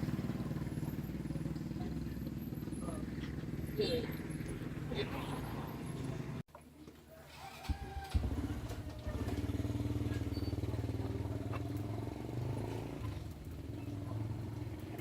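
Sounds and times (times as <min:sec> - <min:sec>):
small engine running: 0:00.0 - 0:06.4, 0:07.6 - 0:15.0.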